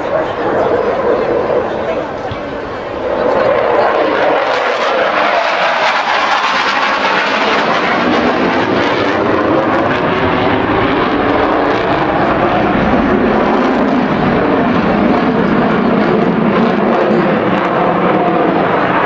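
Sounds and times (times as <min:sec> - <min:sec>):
jet passing overhead: 0:00.0 - 0:19.0.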